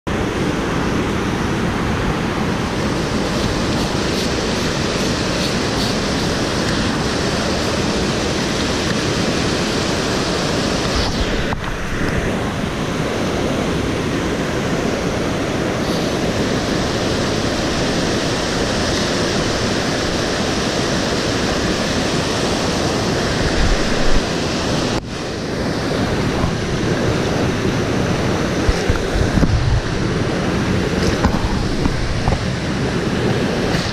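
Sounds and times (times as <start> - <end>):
river rapids rushing over boulders: 0.1 - 33.9.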